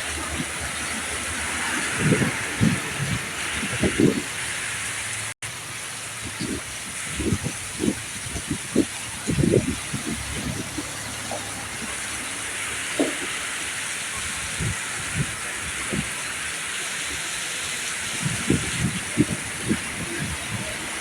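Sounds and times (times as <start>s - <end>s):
heavy rain hissing: 0.0s - 21.0s.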